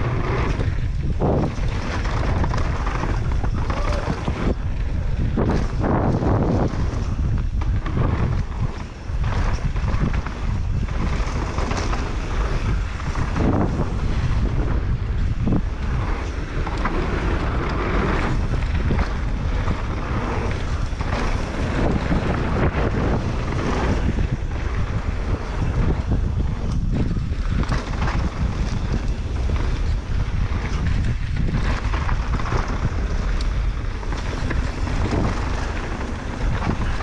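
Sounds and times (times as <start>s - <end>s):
mountain bike rolling and rattling: 0.0s - 37.0s
wind buffeting microphone: 0.0s - 37.0s.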